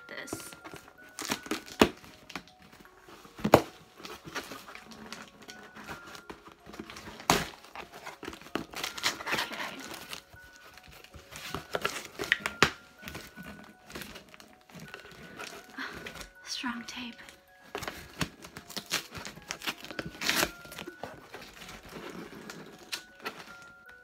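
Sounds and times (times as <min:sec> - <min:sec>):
cardboard crackling: 0:00.0 - 0:24.0
packing tape ripping: 0:00.6 - 0:16.4, 0:17.7 - 0:24.0.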